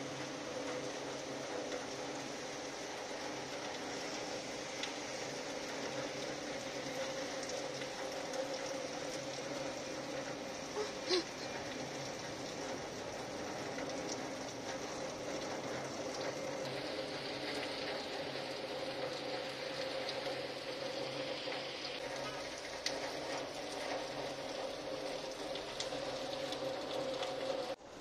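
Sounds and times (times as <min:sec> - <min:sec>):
heavy rain on roofs and pavement: 0:00.0 - 0:28.0
dripping water ticks: 0:00.2 - 0:27.8.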